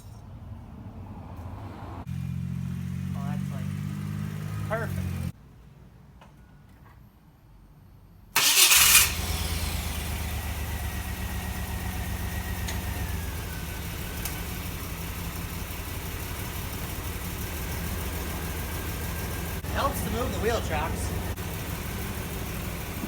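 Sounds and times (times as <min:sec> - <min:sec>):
car engine cranking and idling: 0:00.4 - 0:05.4, 0:08.4 - 0:23.0.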